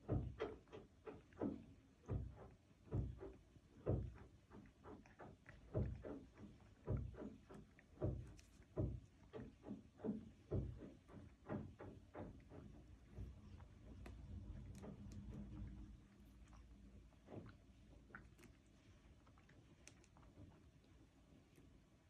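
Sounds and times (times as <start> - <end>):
cat licking: 0.0 - 22.0.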